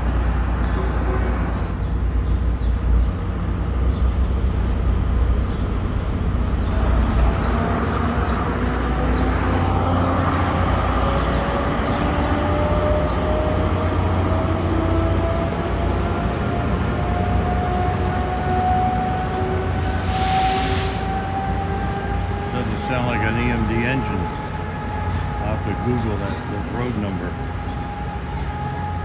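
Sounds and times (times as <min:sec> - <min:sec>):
diesel locomotive engine rumble: 0:00.0 - 0:29.0.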